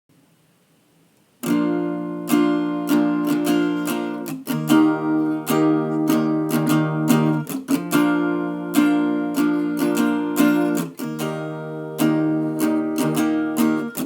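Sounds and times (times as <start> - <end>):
acoustic guitar strumming chords: 1.4 - 14.0.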